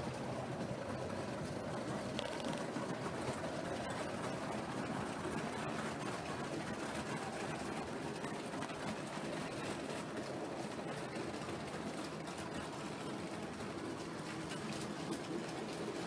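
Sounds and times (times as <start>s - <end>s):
model train wheels and motor rumble: 0.0s - 16.0s.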